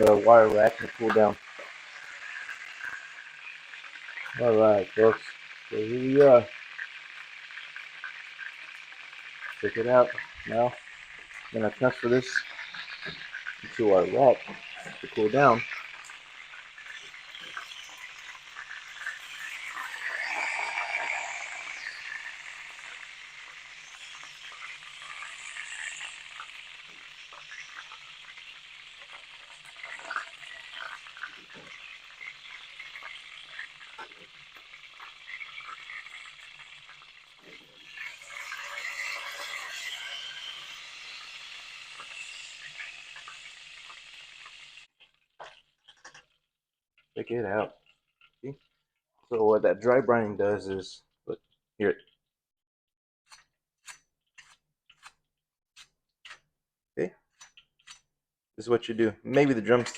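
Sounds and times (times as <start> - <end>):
chicken frying in hot oil: 0.0 - 52.2, 53.3 - 59.9.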